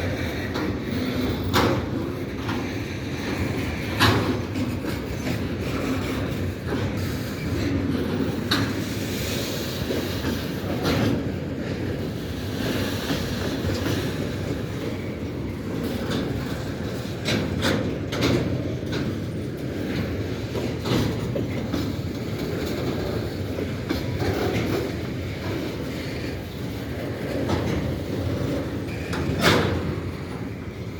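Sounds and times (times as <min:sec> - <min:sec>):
freight train rumbling past: 0:00.0 - 0:30.9
wheels clicking over rail joints: 0:00.0 - 0:30.9.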